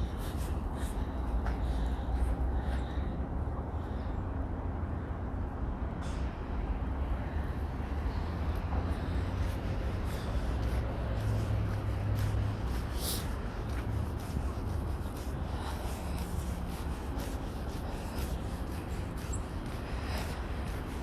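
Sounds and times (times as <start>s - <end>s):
passing vehicle rumble: 0.0s - 21.0s.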